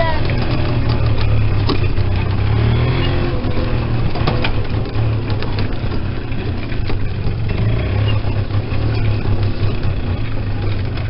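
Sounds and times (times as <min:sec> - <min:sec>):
light rattles and knocks: 0:00.0 - 0:11.0
vehicle engine running: 0:00.0 - 0:11.0.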